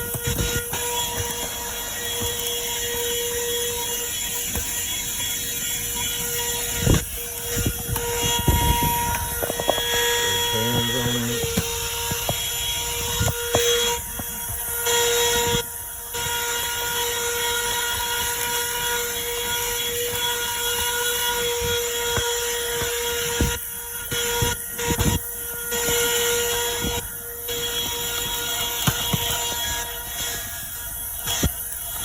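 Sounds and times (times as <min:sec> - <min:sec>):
car vacuum whining: 0:00.0 - 0:32.0.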